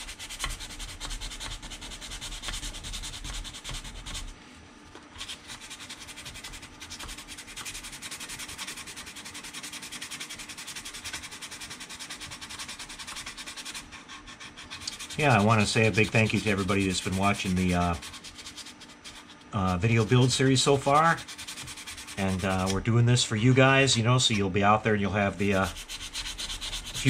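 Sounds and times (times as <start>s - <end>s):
sandpaper rubbing on plastic: 0.0s - 4.4s, 5.2s - 22.9s, 25.3s - 27.0s.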